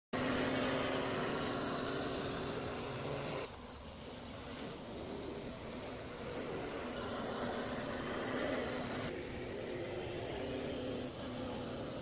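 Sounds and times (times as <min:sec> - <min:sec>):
drone rotors buzzing: 0:00.2 - 0:12.0.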